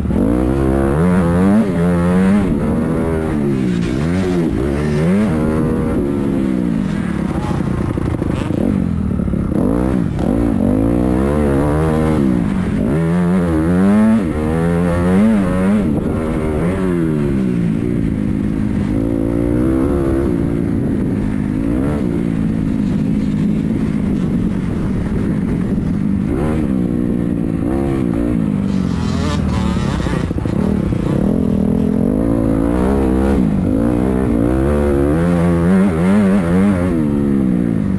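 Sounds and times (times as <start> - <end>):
dirt bike engines revving: 0.0 - 37.9
dirt bikes droning: 0.0 - 37.9.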